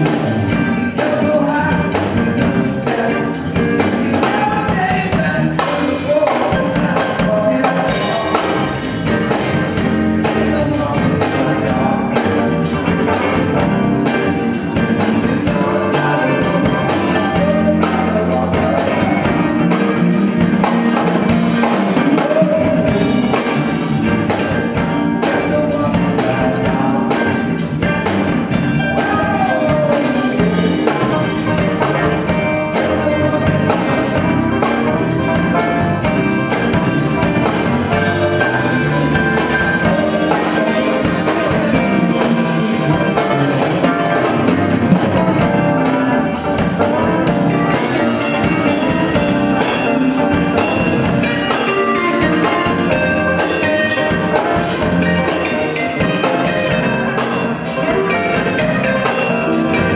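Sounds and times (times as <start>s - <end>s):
blues band playing live: 0.0s - 59.9s.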